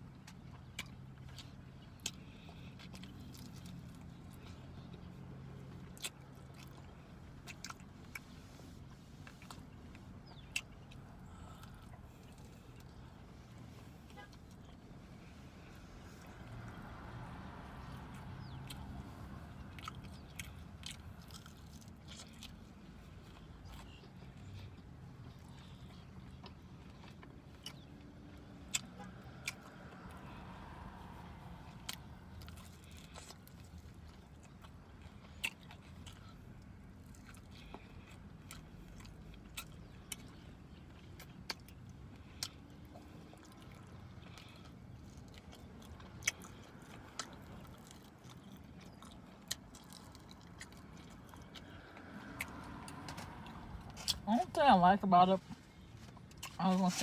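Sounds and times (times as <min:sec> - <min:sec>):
chewing and biting mouth sounds: 0:00.0 - 0:57.0
low car interior hum: 0:00.0 - 0:57.0.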